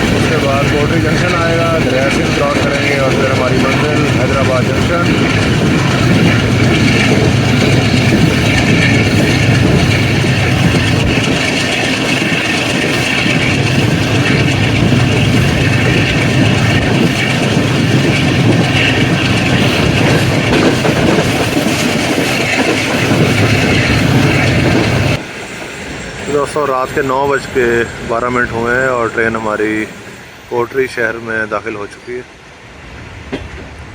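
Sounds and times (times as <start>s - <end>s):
diesel locomotive engine chugging: 0.0s - 33.9s
train wheels rattling on rails: 0.0s - 33.9s.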